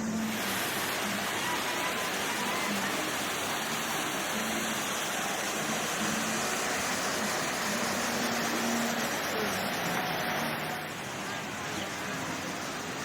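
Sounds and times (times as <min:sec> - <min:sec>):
faint distant voices: 0:00.0 - 0:13.0
steady rushing noise: 0:00.0 - 0:13.0.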